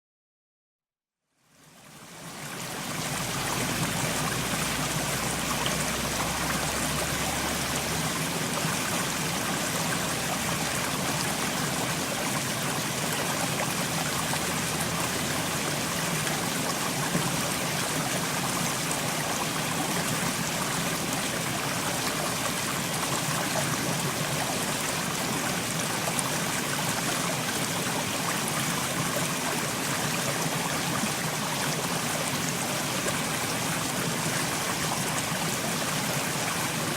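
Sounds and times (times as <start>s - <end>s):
stream flowing over rocks: 1.6s - 36.9s.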